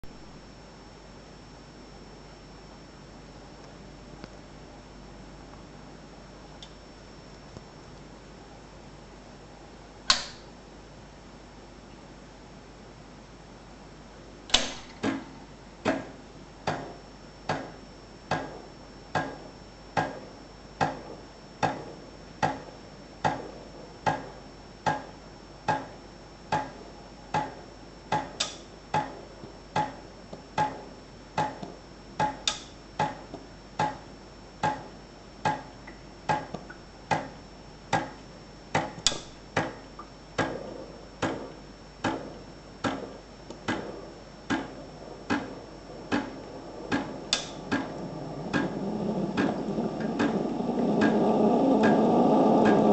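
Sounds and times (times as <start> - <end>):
faint high whine: 0.0 - 52.9.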